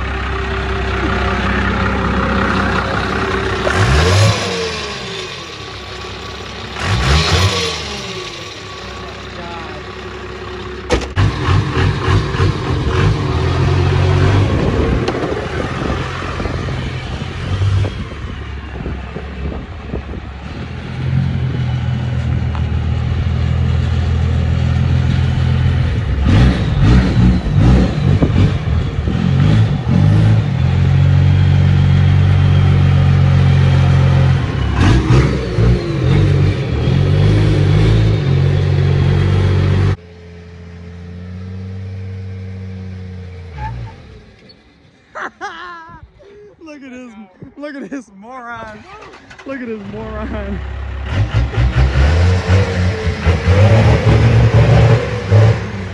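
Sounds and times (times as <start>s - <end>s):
diesel engine revving hard: 0.0s - 9.7s, 10.9s - 40.0s, 48.8s - 55.9s.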